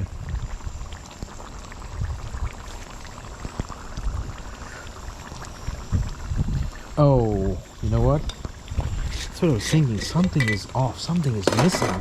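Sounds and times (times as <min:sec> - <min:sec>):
curry bubbling in pot: 0:00.0 - 0:12.0.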